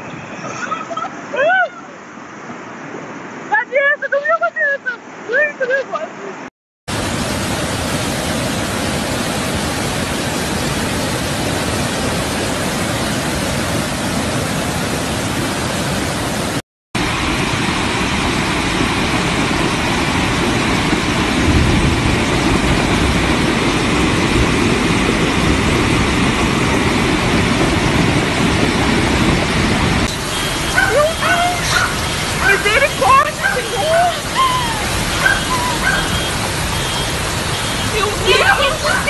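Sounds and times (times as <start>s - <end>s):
floodwater rushing: 6.9s - 39.0s.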